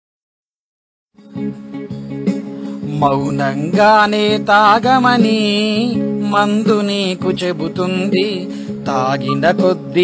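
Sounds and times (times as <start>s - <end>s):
instrumental music: 1.2s - 10.0s.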